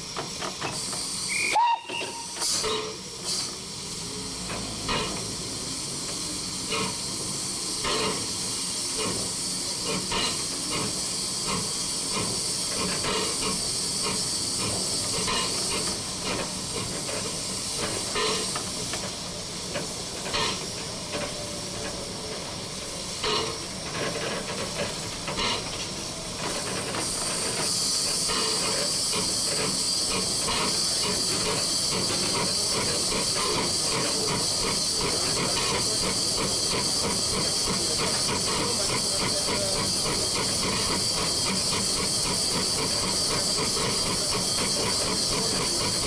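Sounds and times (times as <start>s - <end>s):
steam hissing: 0.0s - 46.0s.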